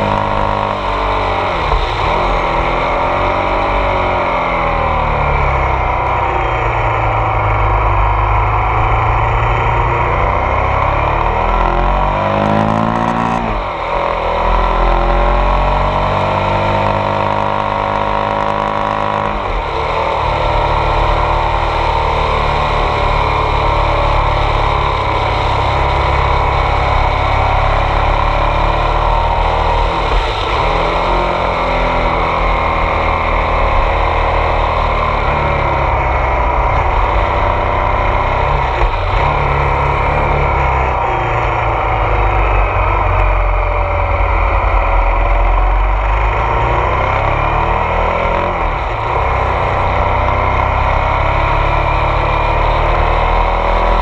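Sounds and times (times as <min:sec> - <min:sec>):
motorcycle engine under throttle: 0:00.0 - 0:54.0.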